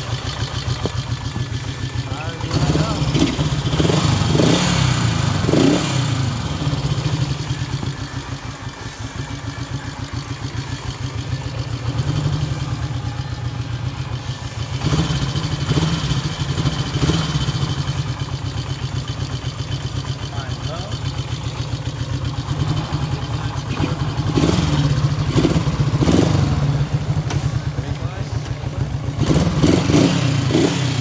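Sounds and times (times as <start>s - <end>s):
motorcycle engine idling with throttle blips: 0.0s - 31.0s.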